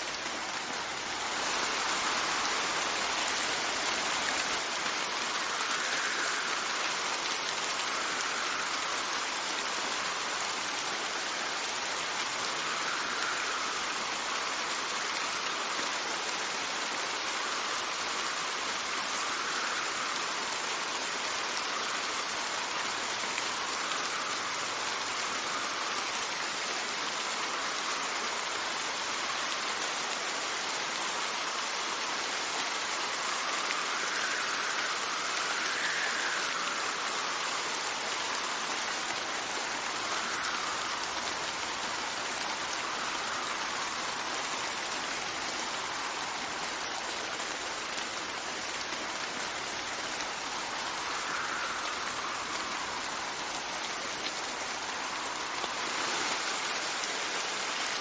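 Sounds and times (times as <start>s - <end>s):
steady rain: 0.0s - 58.0s
wind: 0.0s - 58.0s.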